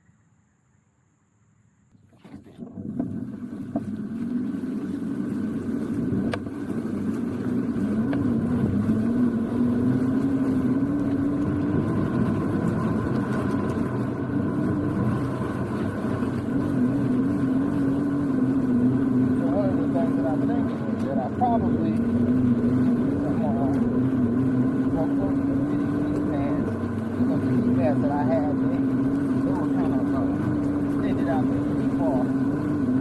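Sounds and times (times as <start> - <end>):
wind and road noise: 1.9 - 33.0
electric motor whine: 2.2 - 33.0.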